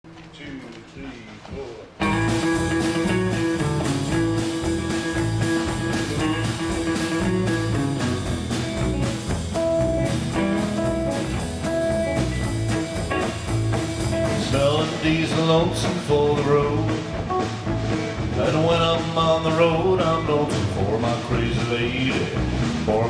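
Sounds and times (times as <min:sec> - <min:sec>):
steady drum beat: 0:01.3 - 0:23.0
guitar: 0:01.9 - 0:23.0.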